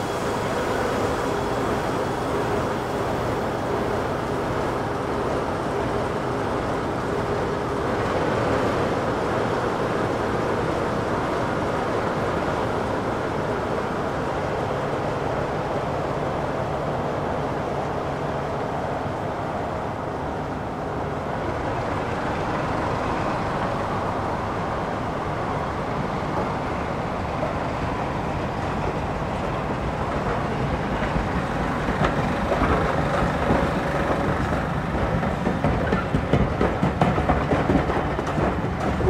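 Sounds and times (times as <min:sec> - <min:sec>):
diesel locomotive engine running: 0:00.0 - 0:39.0.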